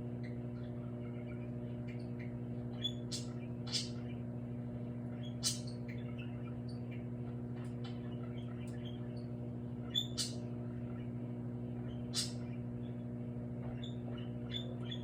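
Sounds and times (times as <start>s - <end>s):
microwave oven hum: 0.0s - 15.0s.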